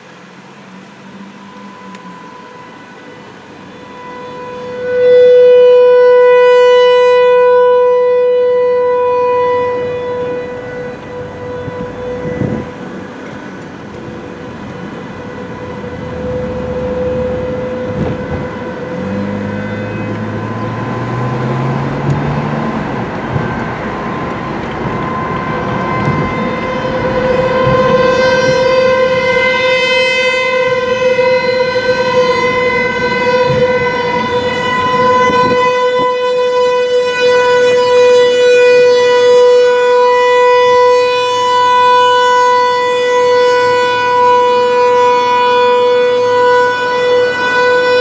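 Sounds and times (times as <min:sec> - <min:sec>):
warning siren steady tone: 0:00.0 - 0:48.0.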